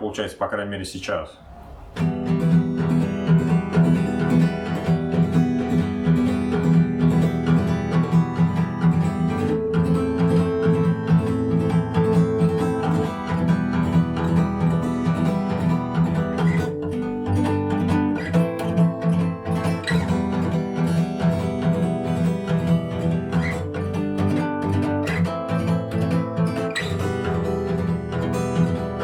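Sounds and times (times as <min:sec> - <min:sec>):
acoustic guitar strumming: 0:01.4 - 0:29.0.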